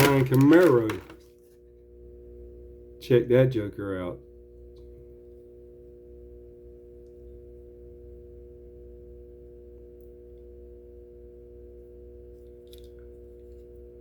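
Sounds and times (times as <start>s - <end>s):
faint pitched hum: 0.0s - 14.0s.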